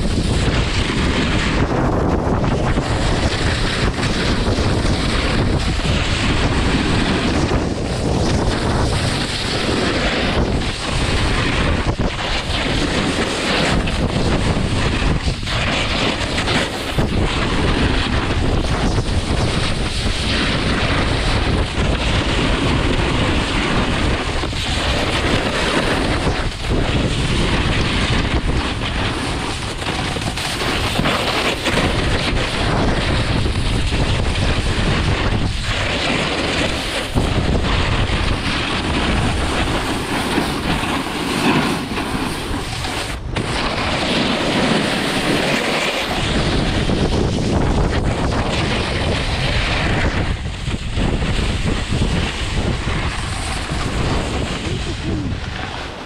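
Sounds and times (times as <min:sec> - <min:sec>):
snowboard scraping over snow: 0:00.0 - 0:56.0
wind rushing over microphone: 0:00.0 - 0:56.0.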